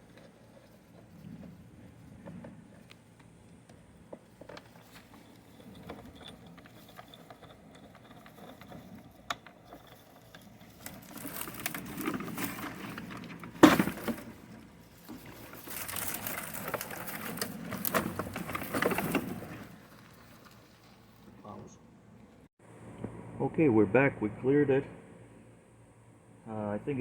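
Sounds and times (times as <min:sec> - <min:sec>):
branches rustling and scraping: 0:00.0 - 0:22.5.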